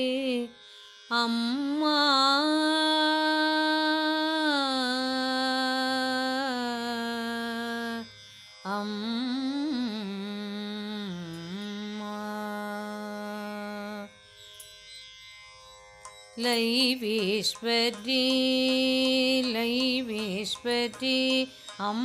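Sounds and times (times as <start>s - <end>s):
woman singing devotional song: 0.0s - 14.2s, 16.4s - 22.0s.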